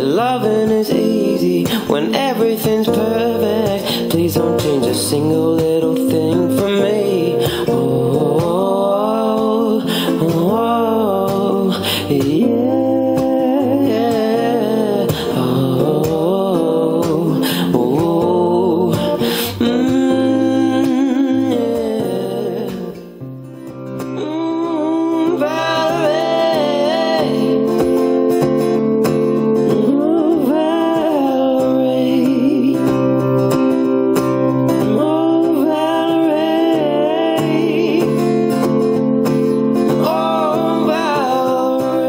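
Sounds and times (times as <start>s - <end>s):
strummed acoustic guitar: 0.0s - 42.0s.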